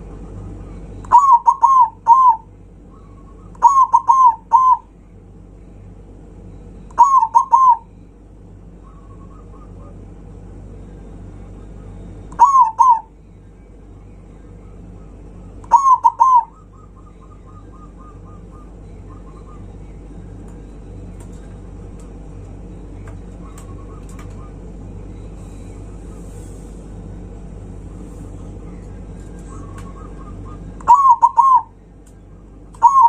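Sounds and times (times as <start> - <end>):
low hum: 0.0 - 33.0
dove cooing: 0.2 - 5.0, 6.9 - 8.0, 8.7 - 13.2, 14.0 - 33.0.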